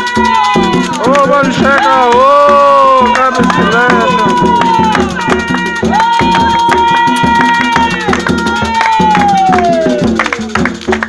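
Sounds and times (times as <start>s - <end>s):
hand drums playing fast rhythm: 0.0s - 11.0s.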